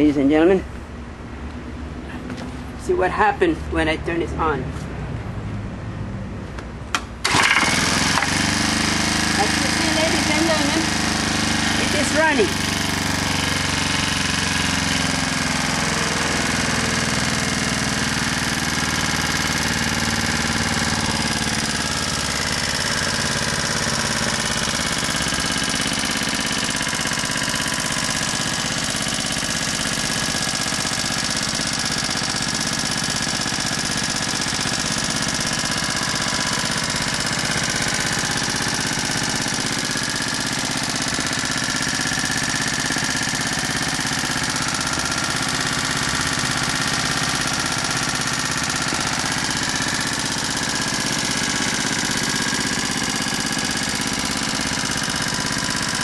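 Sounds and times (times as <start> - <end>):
small engine running steadily: 5.4 - 56.0.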